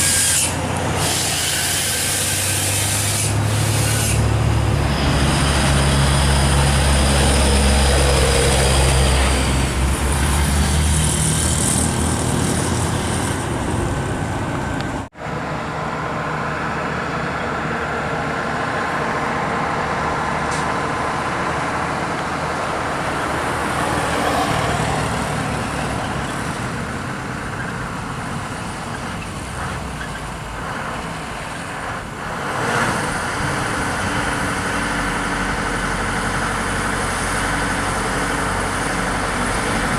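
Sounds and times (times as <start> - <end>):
diesel truck engine: 0.0 - 39.9
road traffic noise: 0.0 - 39.9.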